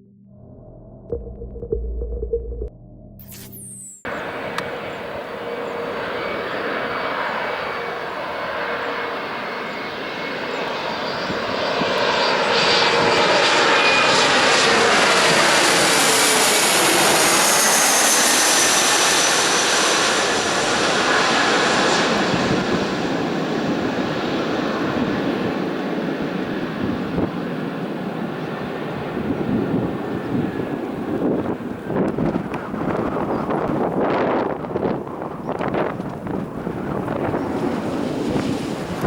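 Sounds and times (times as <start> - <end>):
jet passing low overhead: 4.1 - 39.0.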